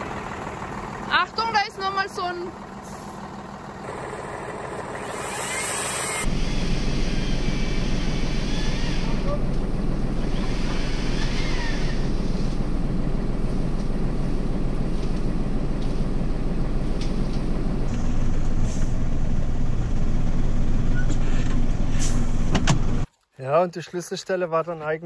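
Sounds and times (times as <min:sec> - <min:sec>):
diesel truck engine rumbling: 0:00.0 - 0:23.1.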